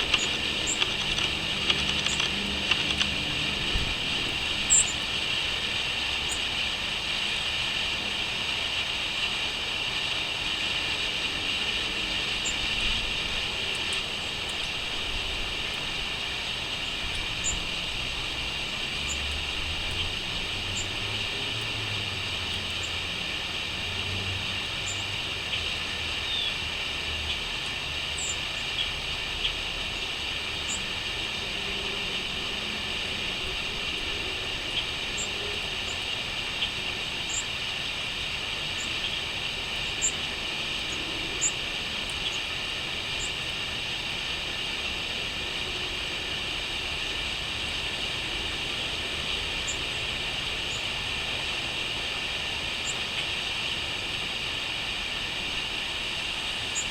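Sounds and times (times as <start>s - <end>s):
crickets chirping: 0.0s - 56.9s.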